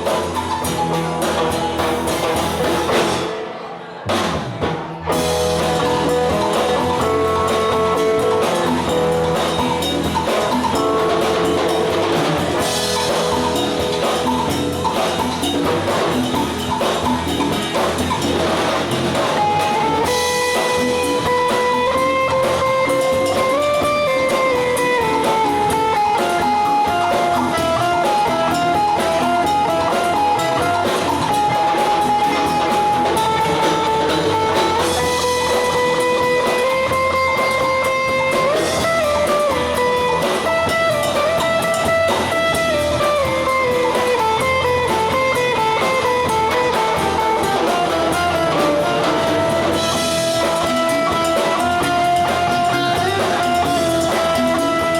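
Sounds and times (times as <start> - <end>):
guitar playing sliding lead melody: 0.0 - 3.4, 5.1 - 54.9
live instrumental band music: 0.0 - 54.9.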